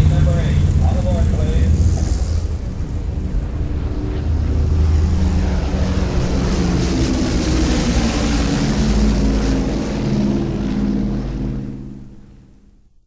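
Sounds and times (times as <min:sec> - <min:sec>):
airplane engines droning: 0:00.0 - 0:13.0.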